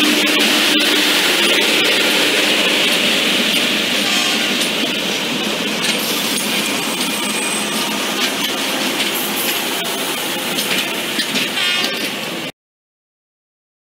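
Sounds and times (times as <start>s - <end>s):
track machine rattling on rails: 0.0s - 12.5s.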